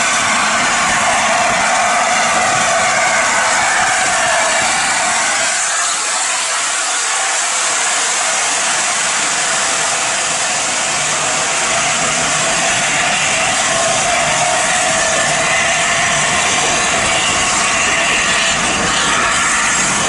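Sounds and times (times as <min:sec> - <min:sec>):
steady loud hiss: 0:00.0 - 0:20.0.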